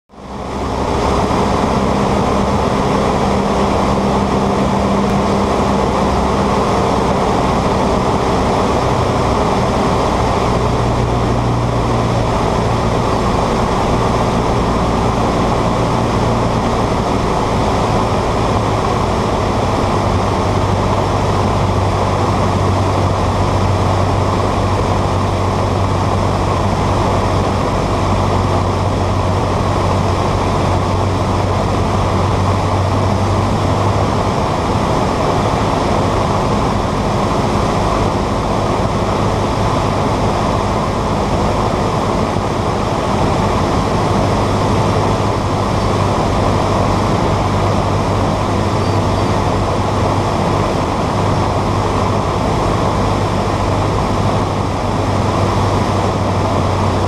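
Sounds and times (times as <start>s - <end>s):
small plane engine and propeller drone: 0.1s - 57.0s.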